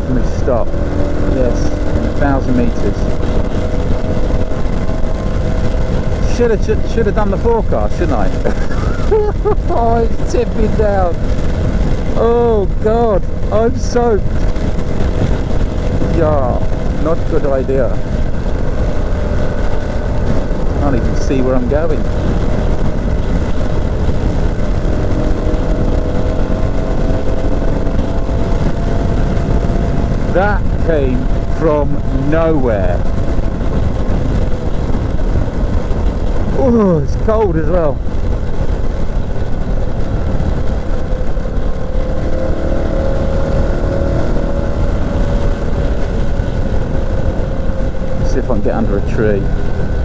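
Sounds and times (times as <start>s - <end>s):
motorcycle engine hum: 0.0s - 50.0s
wind and road roar: 0.0s - 50.0s.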